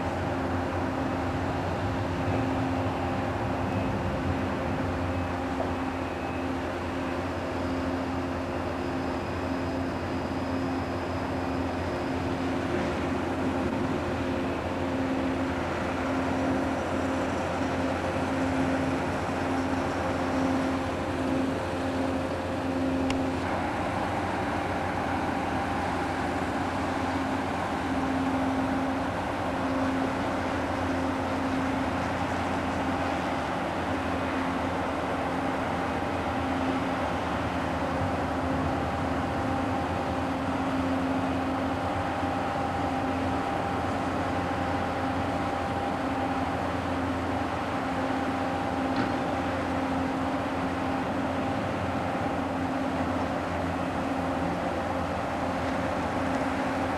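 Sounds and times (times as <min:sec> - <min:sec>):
machinery drone: 0:00.0 - 0:56.9.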